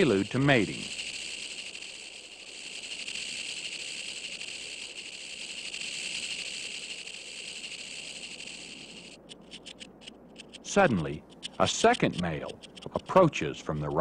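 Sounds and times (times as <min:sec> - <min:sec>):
rattlesnake rattle buzzing: 0:00.0 - 0:14.0.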